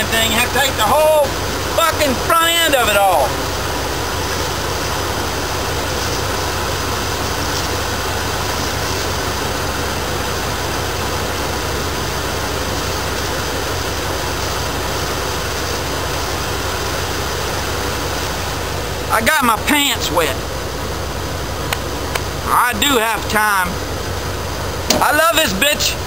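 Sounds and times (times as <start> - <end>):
van engine idling: 0.0 - 26.0.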